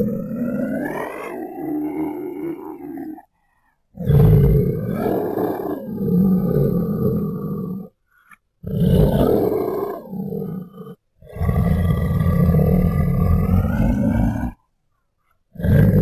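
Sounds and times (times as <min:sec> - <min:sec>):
deep monster growl: 0:00.0 - 0:03.3, 0:04.0 - 0:07.9, 0:08.6 - 0:14.6, 0:15.5 - 0:16.0.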